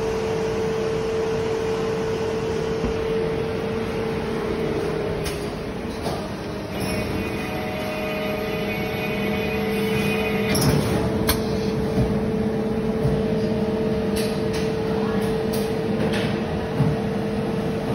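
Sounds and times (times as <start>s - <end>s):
welding machine tone and hum: 0.0s - 17.9s.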